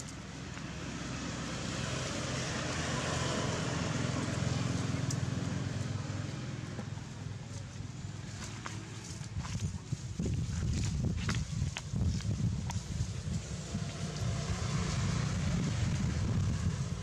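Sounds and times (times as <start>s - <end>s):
vehicle passing by: 0.0s - 9.7s, 10.6s - 17.0s.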